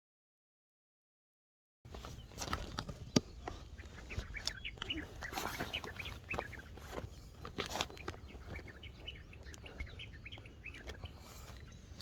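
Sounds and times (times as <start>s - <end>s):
birds chirping: 1.9s - 12.0s.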